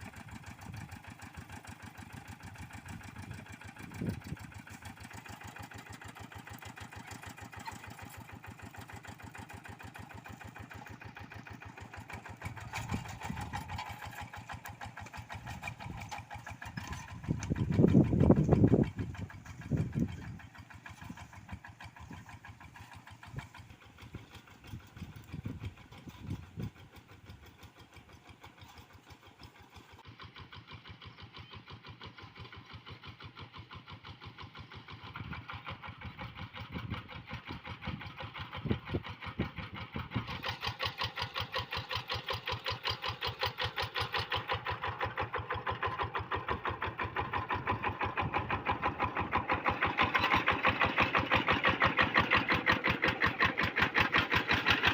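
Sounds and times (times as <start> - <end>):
diesel hand tractor engine running: 0.0 - 54.9.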